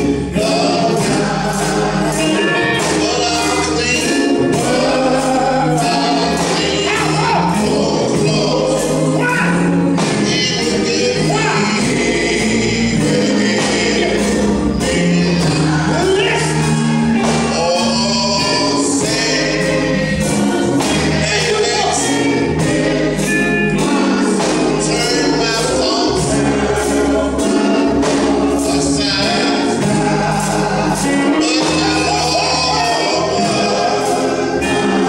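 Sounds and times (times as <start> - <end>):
choir singing gospel: 0.0 - 35.0.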